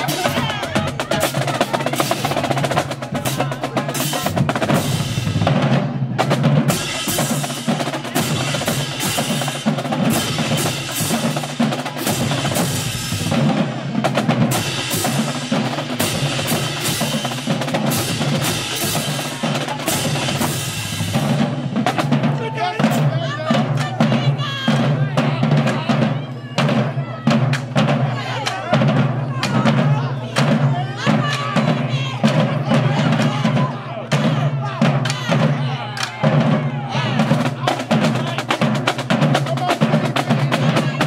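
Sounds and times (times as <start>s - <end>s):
bass drums: 0.0s - 41.0s
snare drums rolling: 0.0s - 41.0s.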